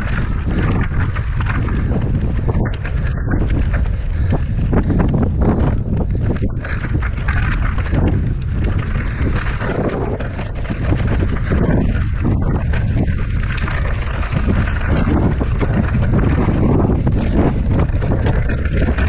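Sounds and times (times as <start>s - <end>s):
bike clattering over rocks: 0.0s - 19.0s
wind rumbling on microphone: 0.0s - 19.0s.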